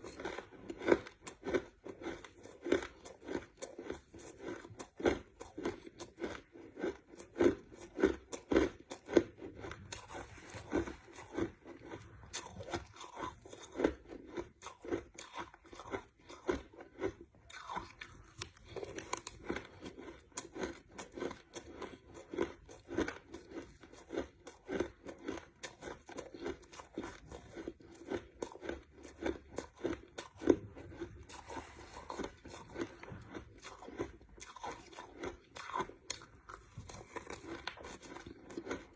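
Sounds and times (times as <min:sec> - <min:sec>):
crushed ice being chewed: 0:00.0 - 0:38.9.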